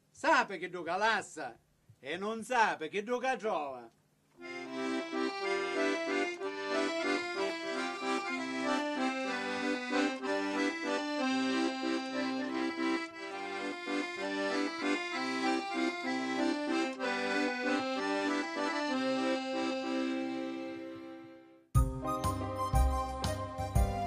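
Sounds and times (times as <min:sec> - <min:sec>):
accordion folk tune: 0:04.4 - 0:24.0.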